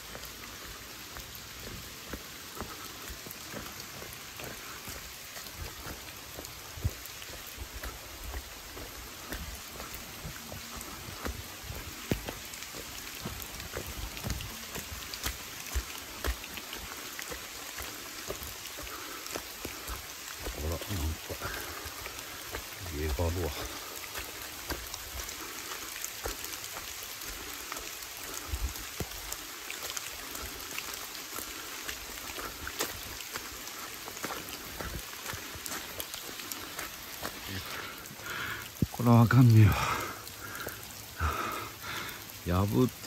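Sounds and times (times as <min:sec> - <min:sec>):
footsteps on wet dirt: 0:00.0 - 0:43.0
rain on foliage: 0:00.0 - 0:43.0.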